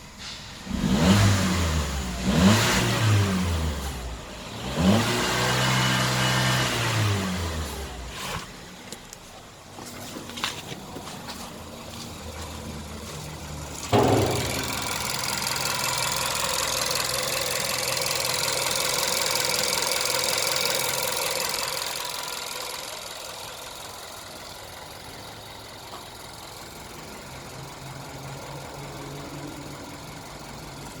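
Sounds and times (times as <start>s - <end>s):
car engine idling: 6.0s - 31.0s.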